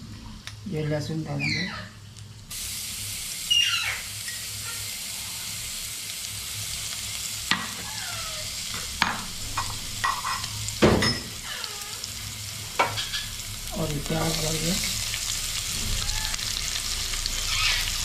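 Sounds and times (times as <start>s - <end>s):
frying hiss in oil: 0.0s - 18.0s.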